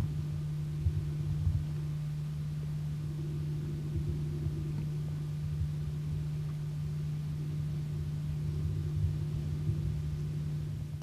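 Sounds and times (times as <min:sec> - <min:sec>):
steady low hum: 0:00.0 - 0:11.0
uneven low rumble: 0:00.0 - 0:11.0.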